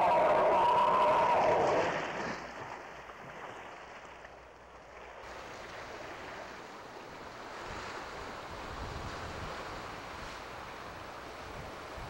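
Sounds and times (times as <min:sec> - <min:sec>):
sea waves washing: 0:00.0 - 0:04.3, 0:04.9 - 0:12.0
wind: 0:00.0 - 0:12.0.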